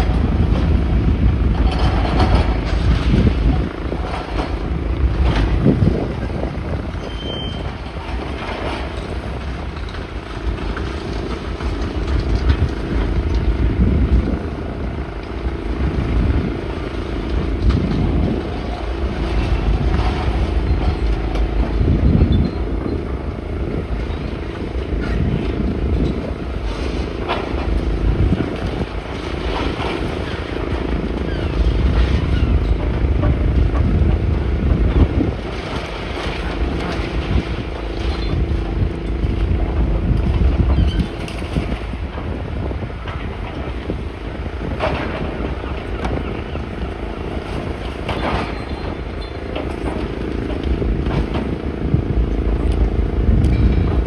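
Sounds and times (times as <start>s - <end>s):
demolition machinery engine drone: 0.0s - 54.0s
wind buffeting microphone: 0.0s - 54.0s.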